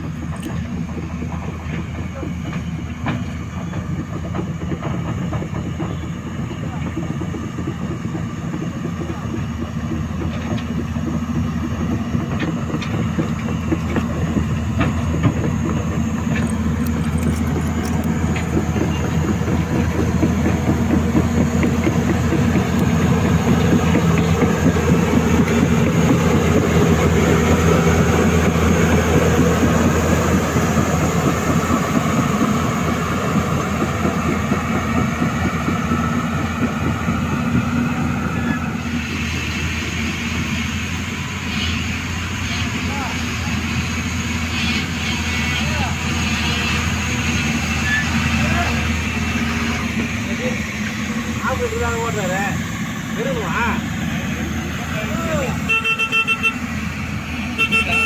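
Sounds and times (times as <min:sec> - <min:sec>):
excavator diesel engine clattering: 0:00.0 - 0:58.0.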